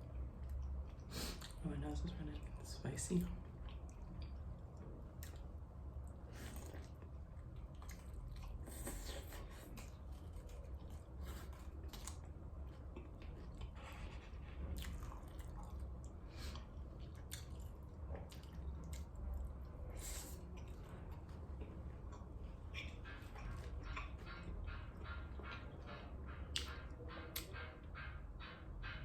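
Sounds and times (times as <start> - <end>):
close chewing and biting: 3.4 - 28.1.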